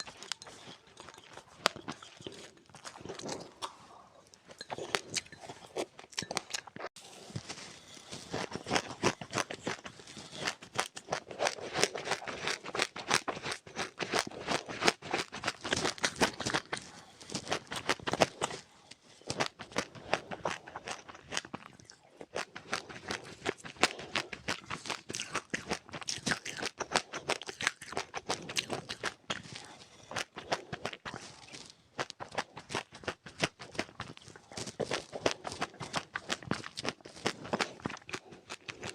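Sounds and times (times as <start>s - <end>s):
chewing seeds crunching: 0.0s - 38.9s.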